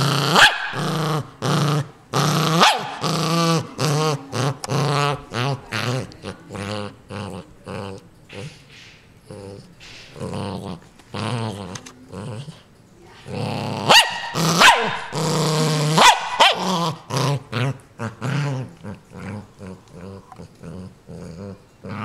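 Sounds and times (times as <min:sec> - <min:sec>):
small dog growling and snarling: 0:00.0 - 0:22.0.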